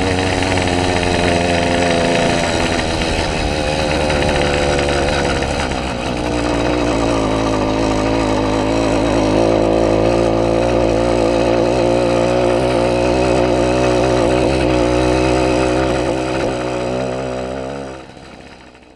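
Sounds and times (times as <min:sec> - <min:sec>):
small engine running: 0:00.0 - 0:18.9.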